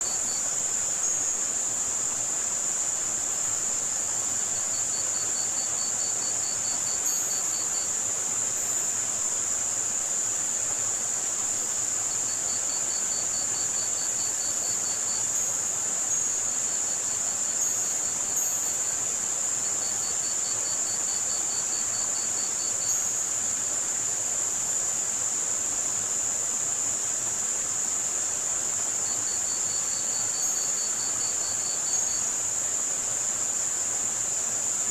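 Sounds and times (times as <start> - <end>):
crickets chirping: 0.0 - 34.9
high-pitched white noise: 0.0 - 34.9
soft hiss: 0.0 - 34.9.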